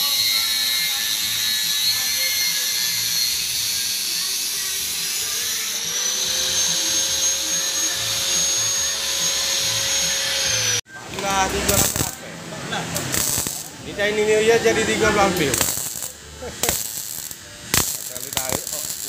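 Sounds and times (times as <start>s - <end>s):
angle grinder cutting metal: 0.0s - 12.3s, 12.9s - 19.0s.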